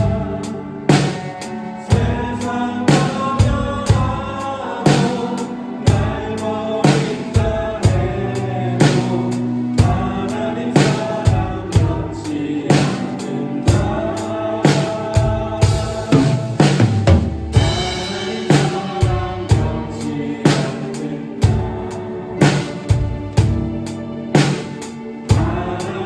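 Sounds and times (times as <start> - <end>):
drum kit playing: 0.0 - 26.0
worship song backing track: 0.0 - 26.0.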